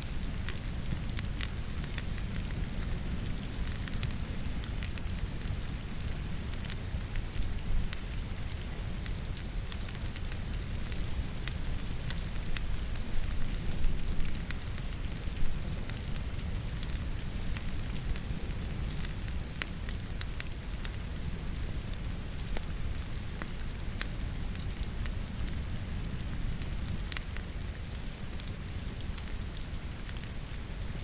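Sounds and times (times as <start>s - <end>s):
rain hiss: 0.0s - 31.0s
wood fire crackling: 0.0s - 31.0s.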